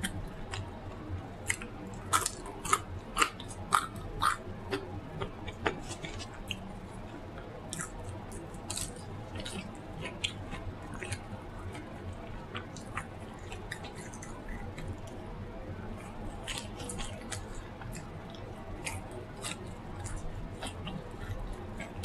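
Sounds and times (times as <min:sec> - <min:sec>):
person chewing food: 0:00.0 - 0:15.3, 0:15.9 - 0:22.0.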